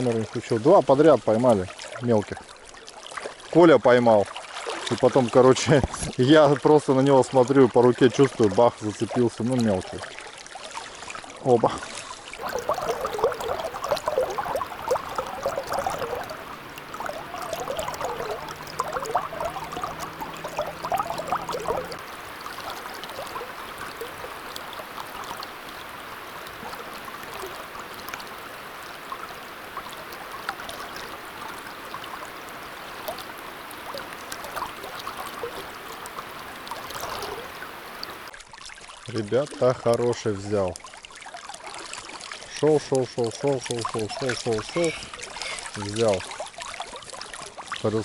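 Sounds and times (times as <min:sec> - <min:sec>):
river water flowing and gurgling: 0:04.3 - 0:48.0.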